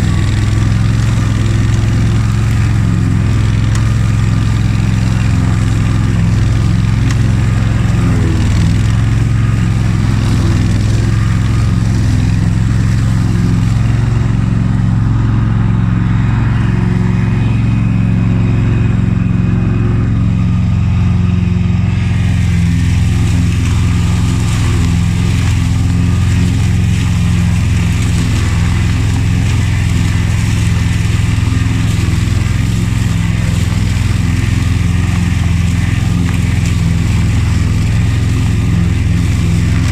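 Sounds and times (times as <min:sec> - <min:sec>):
lawn tractor engine mowing: 0:00.0 - 0:39.9.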